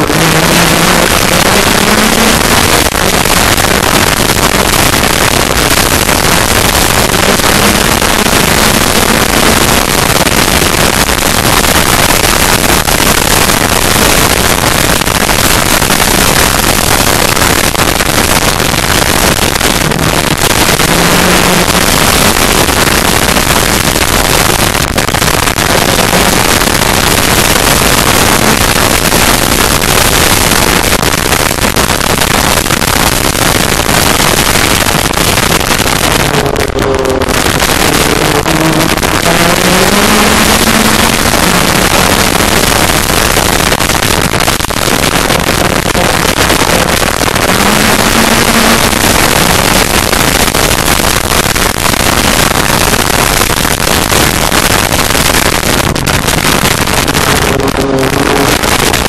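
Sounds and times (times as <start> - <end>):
track noise: 0.0 - 50.5, 55.4 - 59.0
engine under hard throttle: 0.0 - 59.0
wind noise: 0.0 - 59.0.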